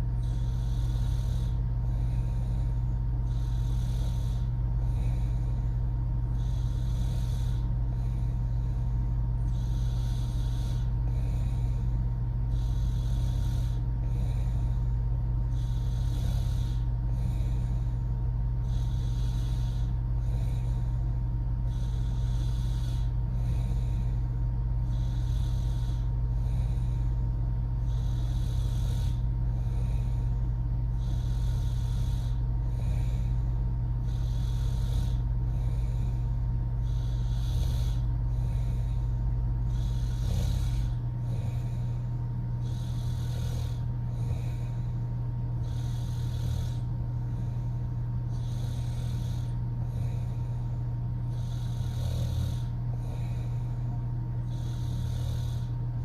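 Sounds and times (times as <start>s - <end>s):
steady low hum: 0.0s - 56.0s
woman snoring: 0.0s - 56.0s.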